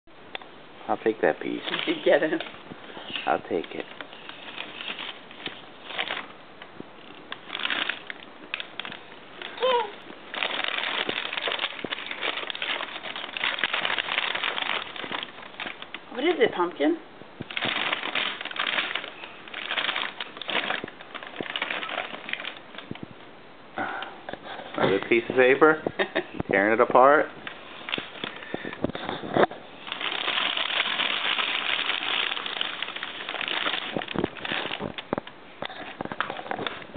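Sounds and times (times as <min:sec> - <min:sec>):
paper crinkling: 0:01.5 - 0:06.4, 0:07.0 - 0:16.4, 0:17.4 - 0:23.0, 0:24.5 - 0:36.9.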